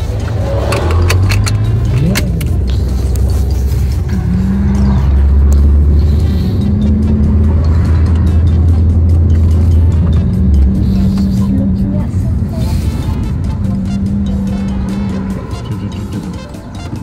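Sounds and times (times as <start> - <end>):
car engine drone inside cabin: 0.0 - 17.0.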